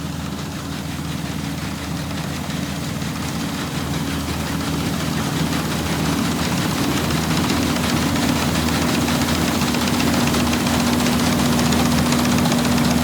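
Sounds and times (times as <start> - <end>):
combine harvester engine humming: 0.0 - 13.0.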